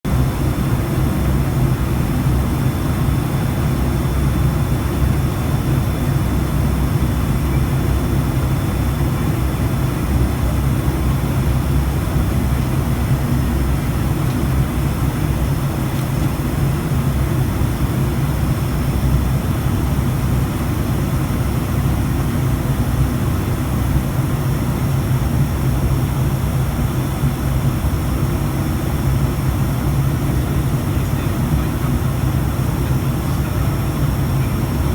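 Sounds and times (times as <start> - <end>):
turboprop engines running: 0.0 - 34.9.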